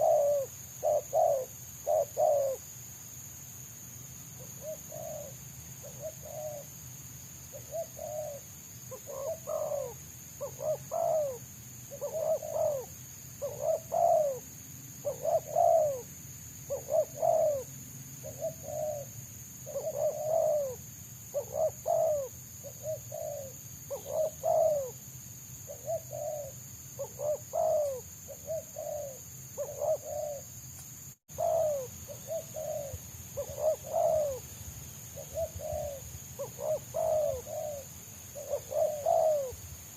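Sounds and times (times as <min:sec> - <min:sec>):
doves cooing: 0:00.0 - 0:02.7, 0:04.4 - 0:06.8, 0:07.5 - 0:25.0, 0:25.7 - 0:30.6, 0:31.3 - 0:34.5, 0:35.2 - 0:39.6.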